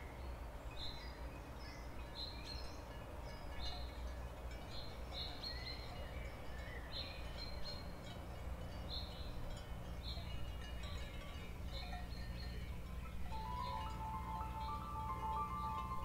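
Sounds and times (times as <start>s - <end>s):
wind chimes tinkling: 0.0s - 16.0s
low steady hum: 2.9s - 16.0s.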